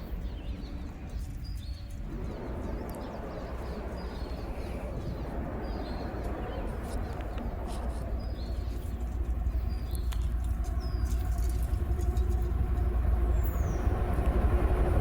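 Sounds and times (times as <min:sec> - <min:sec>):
birds chirping: 0:00.0 - 0:15.0
faint steady engine tone: 0:00.0 - 0:15.0
freight train rumble: 0:00.0 - 0:15.0.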